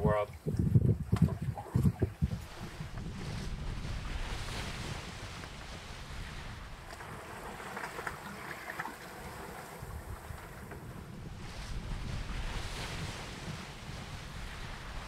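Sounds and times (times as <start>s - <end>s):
water splashing along boat hull: 0.0s - 15.0s
wind on microphone: 0.0s - 15.0s.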